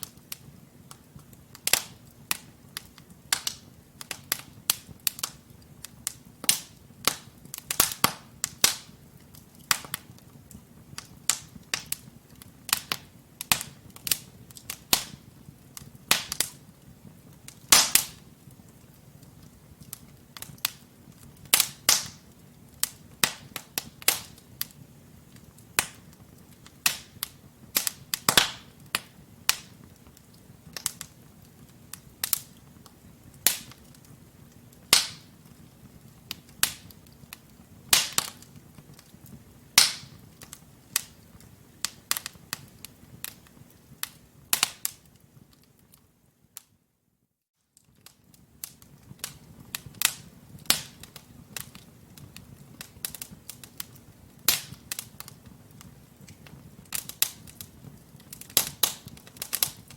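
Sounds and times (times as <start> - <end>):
wood fire crackling and popping: 0.0 - 46.8, 47.6 - 59.9
faint low hiss: 0.0 - 59.9.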